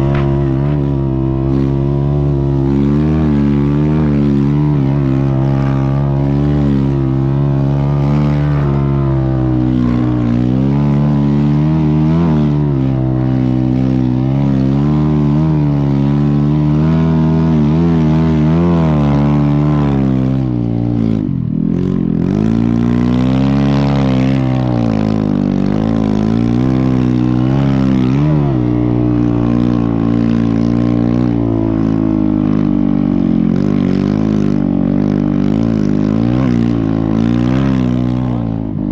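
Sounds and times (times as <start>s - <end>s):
snow bike engine revving: 0.0s - 38.9s.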